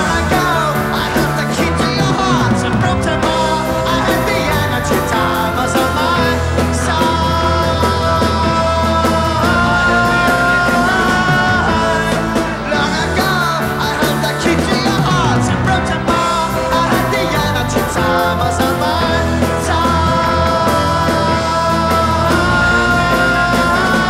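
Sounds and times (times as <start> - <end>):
drums: 0.0 - 24.0
electric guitar: 0.0 - 24.0
person singing: 0.0 - 24.0
rock band playing live: 0.0 - 24.0.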